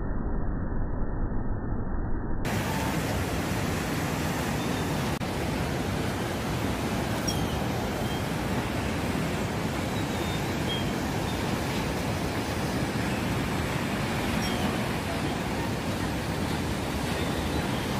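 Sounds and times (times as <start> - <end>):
breaking waves rushing: 2.5 - 17.9.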